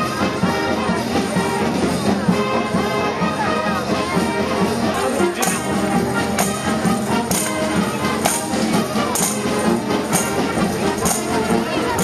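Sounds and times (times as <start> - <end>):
wind band playing a march: 0.0 - 12.0.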